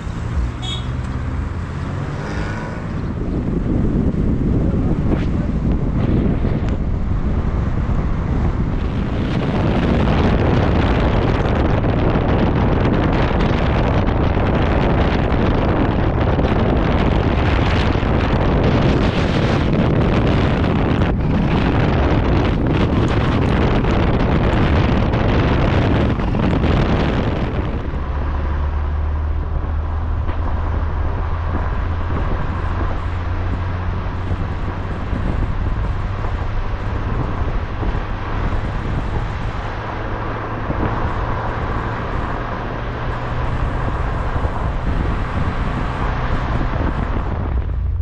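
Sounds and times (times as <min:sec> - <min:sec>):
car engine humming: 0:00.0 - 0:48.0
wind buffeting microphone: 0:01.2 - 0:48.0.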